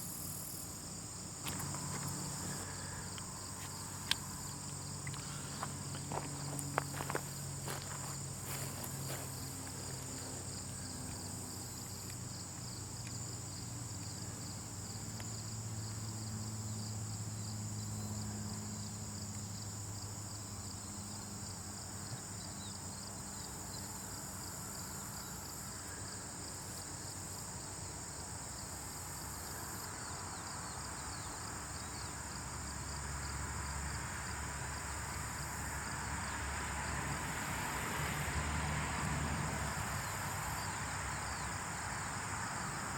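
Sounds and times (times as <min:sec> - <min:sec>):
crickets chirring: 0:00.0 - 0:42.9.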